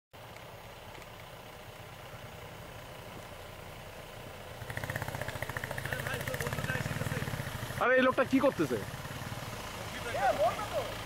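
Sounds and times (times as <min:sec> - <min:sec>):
pulsing nearby engine: 0:00.2 - 0:11.0
vehicle engines idling: 0:00.2 - 0:11.0.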